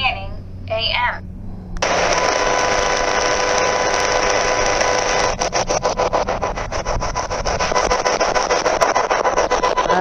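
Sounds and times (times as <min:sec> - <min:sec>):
radio static pulsing: 0:01.8 - 0:10.0.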